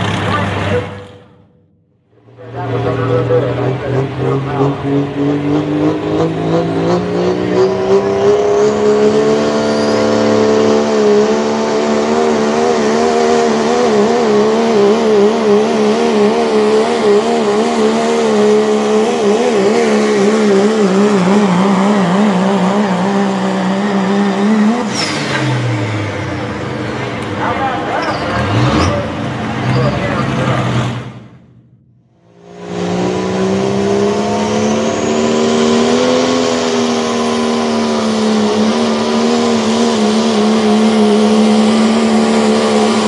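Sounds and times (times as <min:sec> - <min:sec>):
diesel truck engine at full throttle: 0:00.0 - 0:43.0.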